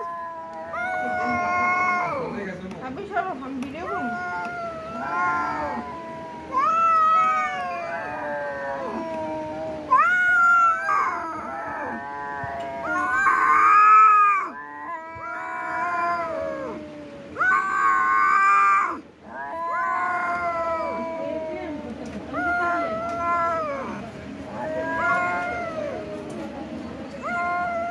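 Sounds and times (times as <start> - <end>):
cats yowling and meowing: 0.0 - 27.9.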